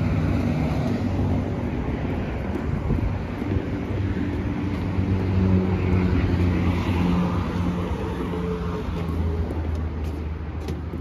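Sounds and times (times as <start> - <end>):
passing vehicle engine drone: 0.0 - 10.0
rumble of highway traffic: 0.0 - 11.0.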